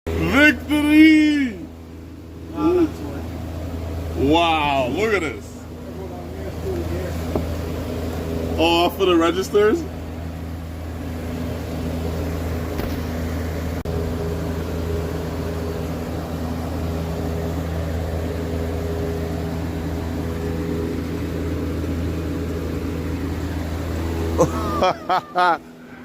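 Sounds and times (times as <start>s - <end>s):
heater fan humming: 0.1s - 26.0s.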